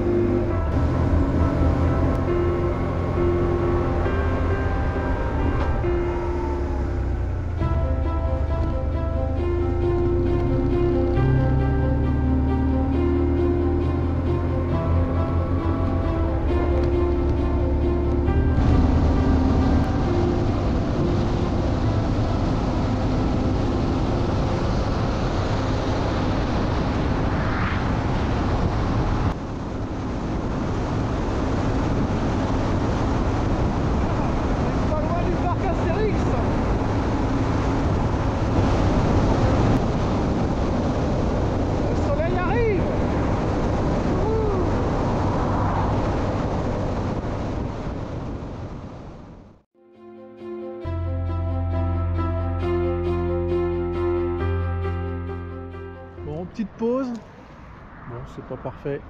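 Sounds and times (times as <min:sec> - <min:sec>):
vehicle engine running steadily: 0:00.0 - 0:49.6
wind noise: 0:00.0 - 0:49.6
road noise: 0:00.0 - 0:59.0.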